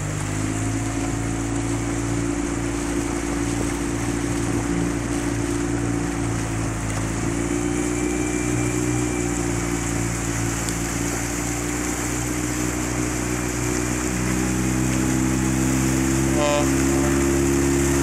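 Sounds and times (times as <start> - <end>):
outboard motor running: 0.0 - 18.0
rushing water: 0.0 - 18.0.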